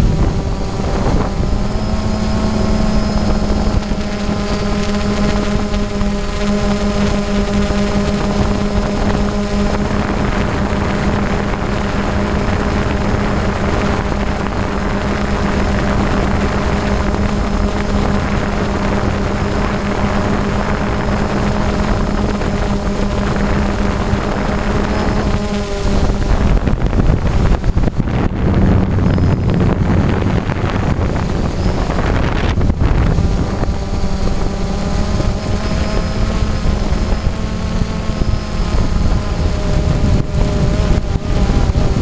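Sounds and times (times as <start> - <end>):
drone propellers humming: 0.0 - 42.0
wind on microphone: 0.0 - 42.0.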